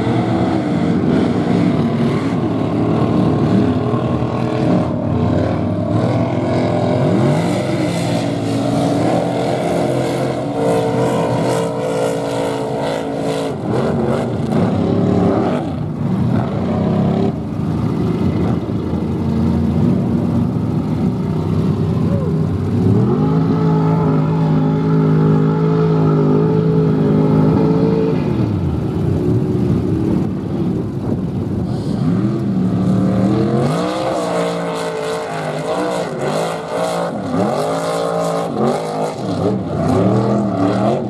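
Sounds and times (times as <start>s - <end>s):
truck engines revving: 0.0s - 41.0s.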